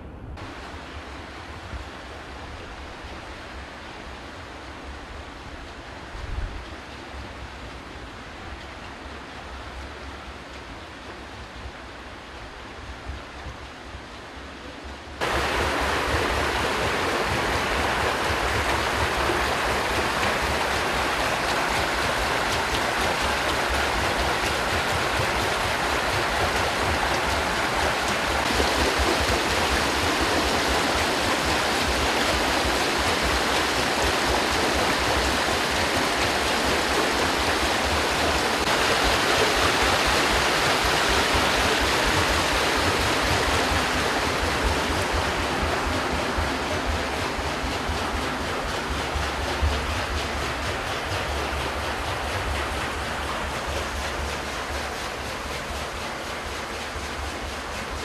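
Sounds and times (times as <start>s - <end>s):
water rushing at waterwheel: 0.0s - 58.0s.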